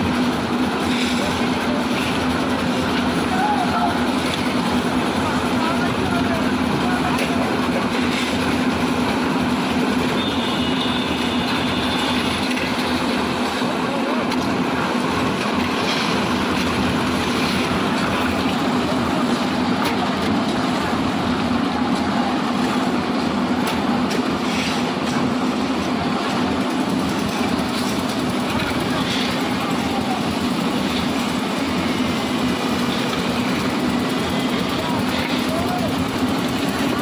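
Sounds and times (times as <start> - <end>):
concrete mixer engine drone: 0.0 - 37.0.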